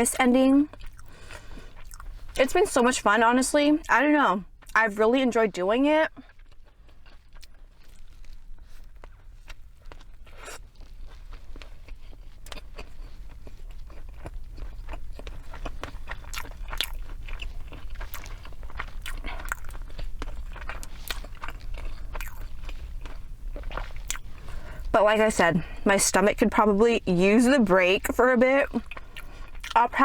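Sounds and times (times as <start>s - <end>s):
chewing crunchy fried food: 0.0s - 30.0s.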